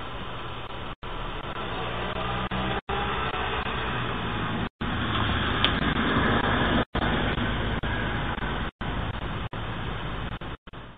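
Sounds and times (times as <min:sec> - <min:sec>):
muffled outdoor noise: 0:00.0 - 0:10.9.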